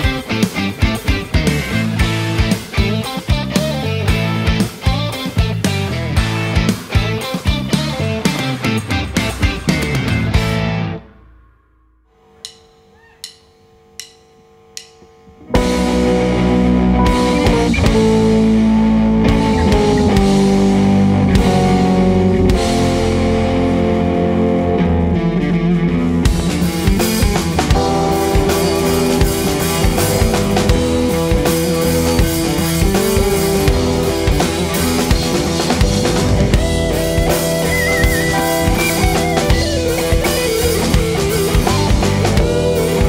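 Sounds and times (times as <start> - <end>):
live rock band playing: 0.0 - 11.1, 15.6 - 43.0
electric guitar bending melody: 0.0 - 11.4, 15.5 - 43.0.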